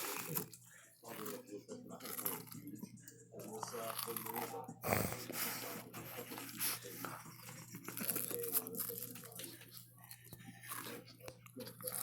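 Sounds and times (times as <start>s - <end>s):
granola bar crunching: 0.0s - 2.8s, 3.4s - 12.0s.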